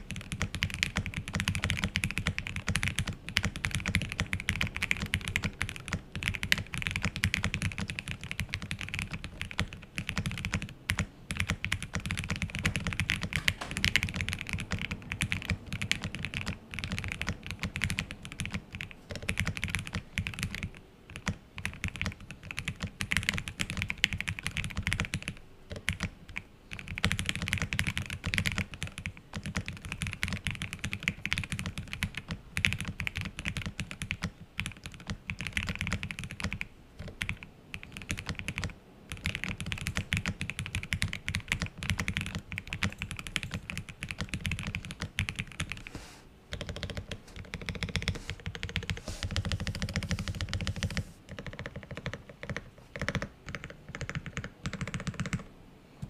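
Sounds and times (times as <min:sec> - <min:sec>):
fast mechanical keyboard typing: 0:00.0 - 0:55.5.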